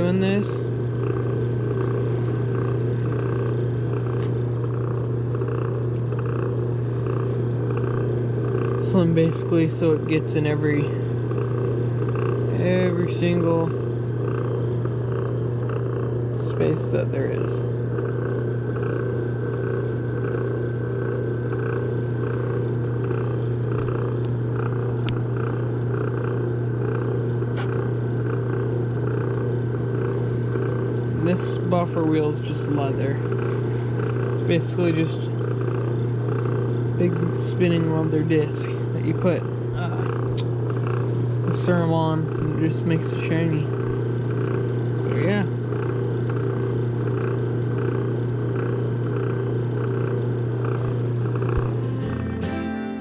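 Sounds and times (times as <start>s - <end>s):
buffing wheel motor humming: 0.0s - 53.0s.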